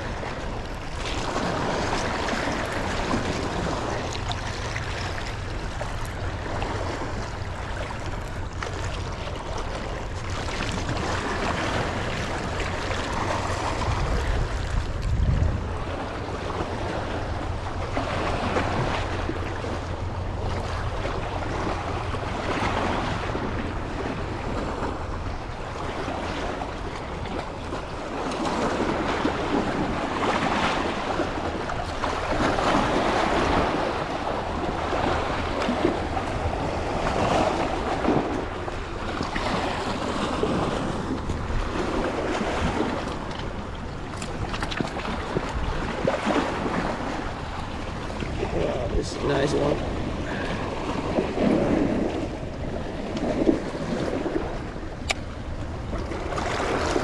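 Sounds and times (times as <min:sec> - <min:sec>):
river water rushing: 0:00.0 - 0:57.0
wind buffeting the microphone: 0:00.0 - 0:57.0.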